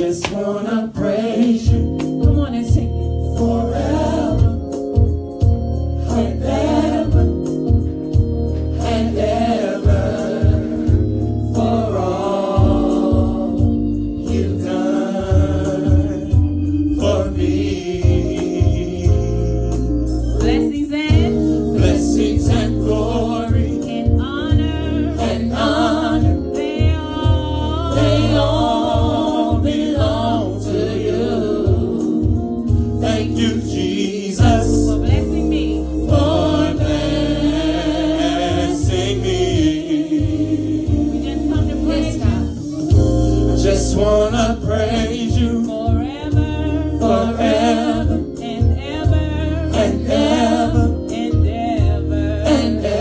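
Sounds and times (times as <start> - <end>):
singers singing with vibrato: 0.0 - 4.9, 6.0 - 7.8, 8.7 - 53.0
instrumental backing with bass: 0.0 - 53.0.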